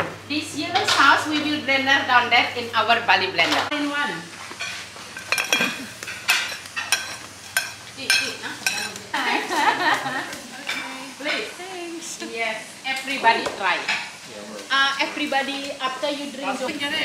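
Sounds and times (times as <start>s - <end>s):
food sizzling in oil: 0.2s - 17.0s.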